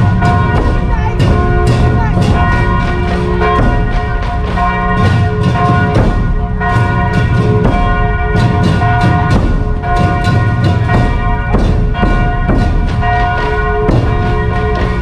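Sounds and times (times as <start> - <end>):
church bells pealing: 0.0 - 15.0
low drumming: 0.0 - 15.0.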